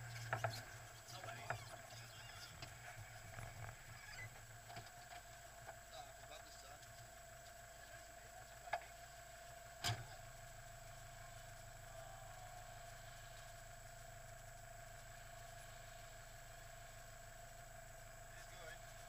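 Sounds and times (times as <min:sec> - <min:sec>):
faint engine idling: 0:00.0 - 0:19.0.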